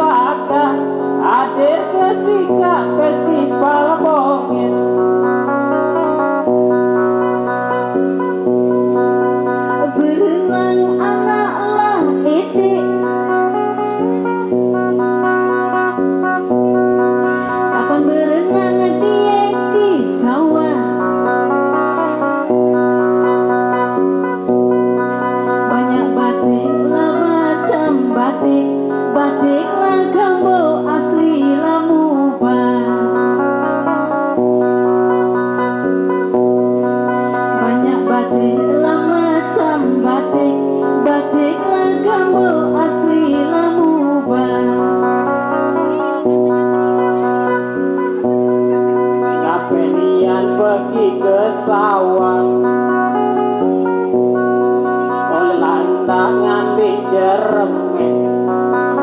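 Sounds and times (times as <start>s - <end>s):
woman singing: 0.0s - 6.5s, 9.0s - 13.8s, 16.7s - 22.5s, 25.0s - 34.4s, 37.1s - 59.0s
guitar low notes: 0.0s - 59.0s.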